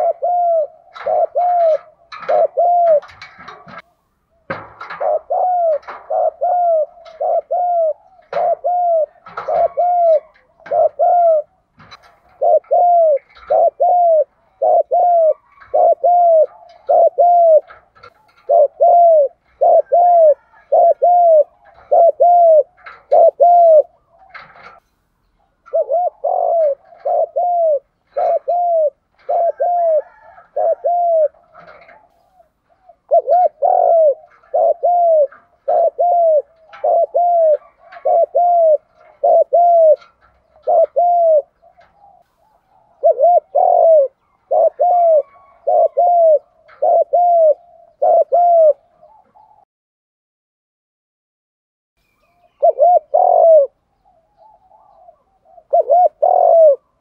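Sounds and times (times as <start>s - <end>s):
dove cooing: 0.0s - 49.6s, 52.2s - 57.0s.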